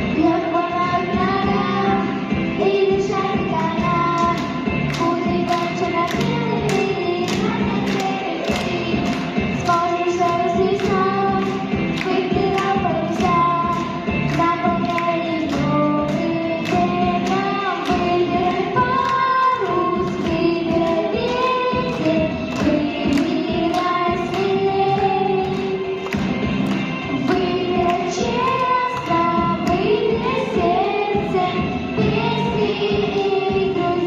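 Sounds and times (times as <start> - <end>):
backing music with steady beat: 0.0 - 34.0.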